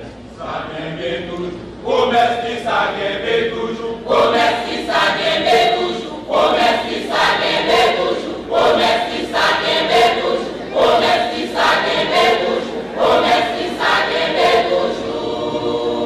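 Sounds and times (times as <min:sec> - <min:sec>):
church choir singing: 0:01.8 - 0:16.0.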